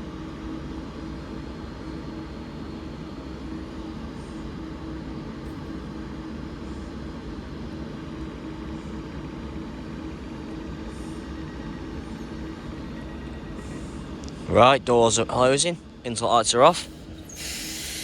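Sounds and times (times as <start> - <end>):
electric train equipment humming: 0.0 - 18.0.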